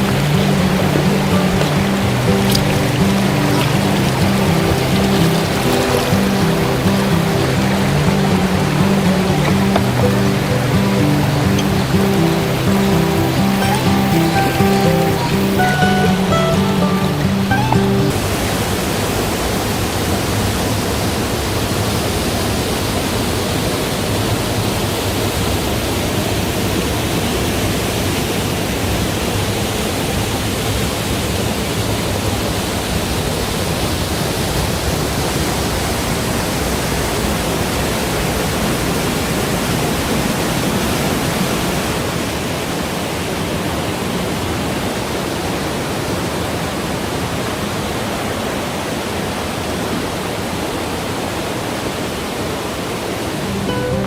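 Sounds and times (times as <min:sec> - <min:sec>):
stream rushing through cascades: 0:00.0 - 0:54.0.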